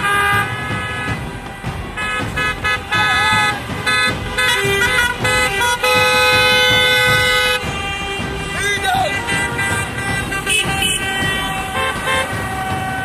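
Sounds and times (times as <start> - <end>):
car horns honking: 0.0 - 13.0
cars driving by: 0.0 - 13.0.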